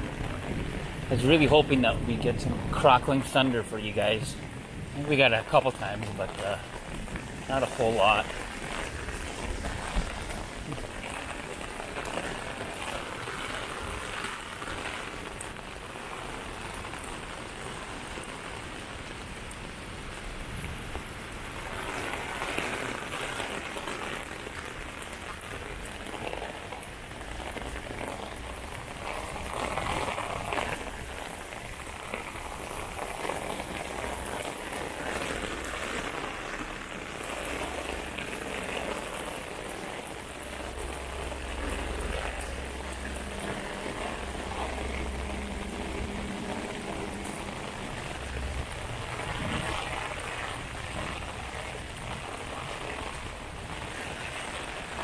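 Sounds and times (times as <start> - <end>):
rain on an umbrella: 0.0 - 55.0
rain pattering on pavement: 0.0 - 55.0.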